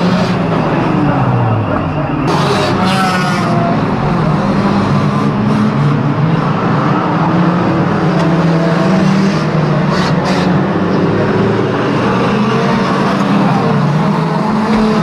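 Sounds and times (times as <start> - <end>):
racing car engines: 0.0 - 15.0.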